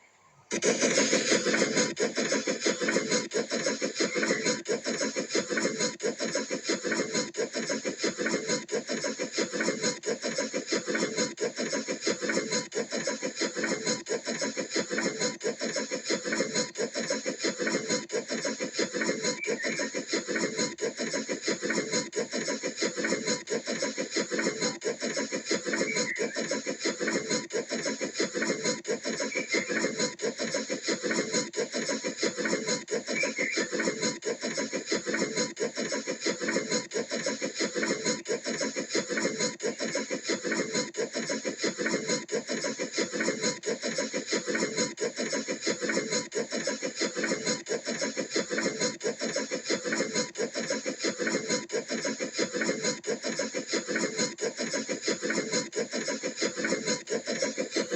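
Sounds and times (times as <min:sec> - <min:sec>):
cartoon steam locomotive chuffing: 0:00.0 - 0:57.9.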